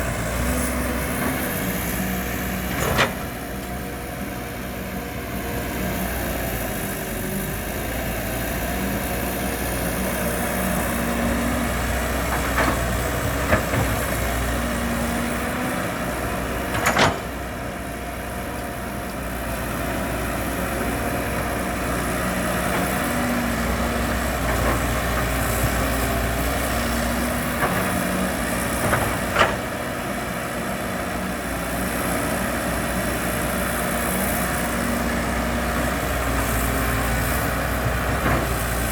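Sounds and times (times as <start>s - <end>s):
heavy machinery engine rumbling: 0.0s - 38.9s.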